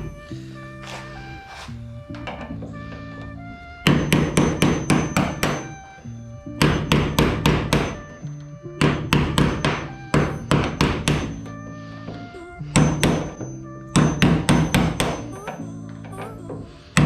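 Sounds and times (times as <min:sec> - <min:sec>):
background music with held notes: 0:00.0 - 0:17.0
hammer blows on aluminium: 0:00.8 - 0:05.9, 0:06.5 - 0:08.2, 0:08.8 - 0:17.0.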